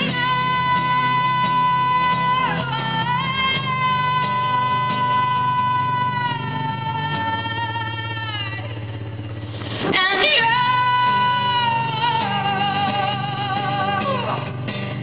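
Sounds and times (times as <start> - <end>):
woman singing: 0.0 - 8.8, 9.8 - 14.9
steady low hum: 0.0 - 15.0.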